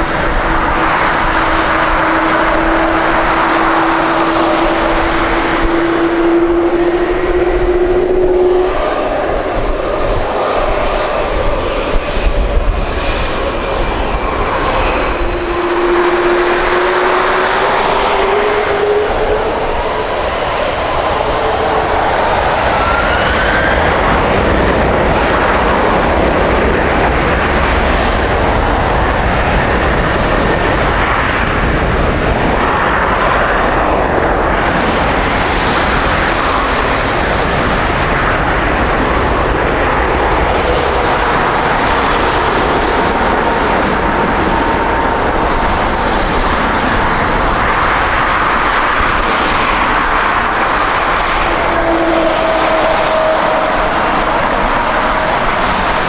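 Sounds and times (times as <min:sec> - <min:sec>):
faint whine sliding in pitch: 0:00.0 - 0:24.2, 0:32.7 - 0:56.0
jet engines rumbling: 0:00.0 - 0:56.0.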